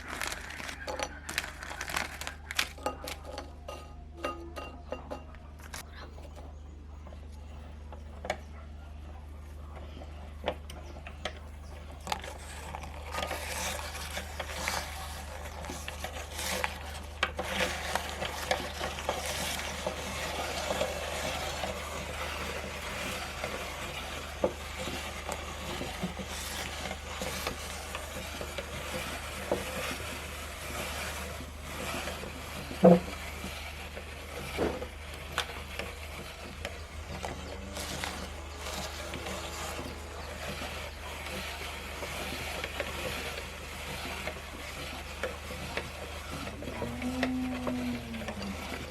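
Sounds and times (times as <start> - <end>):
meat grinder crushing cookies: 0.0 - 4.9, 7.8 - 48.9.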